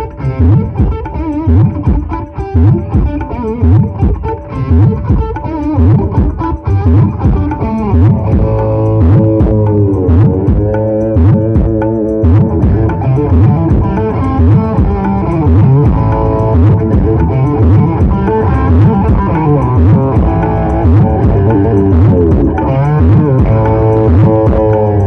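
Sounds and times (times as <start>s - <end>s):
loud music with heavy bass: 0.0s - 25.0s.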